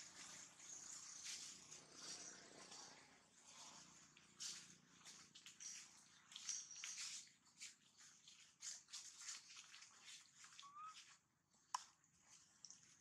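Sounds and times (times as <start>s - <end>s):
faint rustling and crackling: 0.0s - 13.0s.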